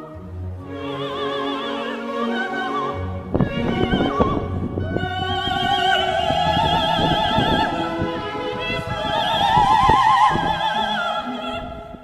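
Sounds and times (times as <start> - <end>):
operatic soprano singing: 0.0 - 12.0.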